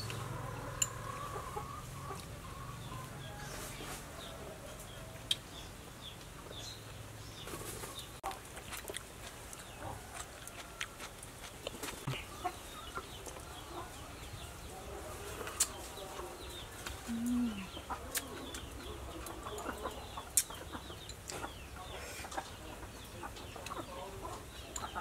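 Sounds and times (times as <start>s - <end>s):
chickens clucking: 0.0s - 5.2s, 7.4s - 25.0s.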